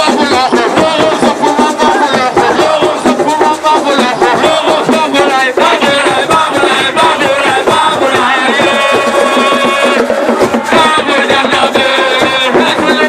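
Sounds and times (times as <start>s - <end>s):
fast drumming: 0.0s - 13.0s
singing voices: 0.0s - 13.0s.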